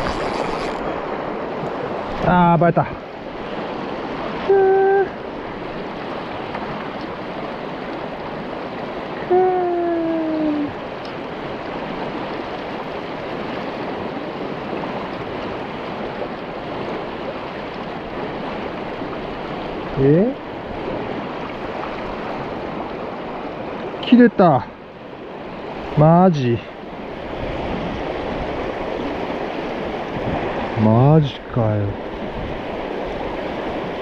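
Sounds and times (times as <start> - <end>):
river rushing past stony bank: 0.0 - 34.0.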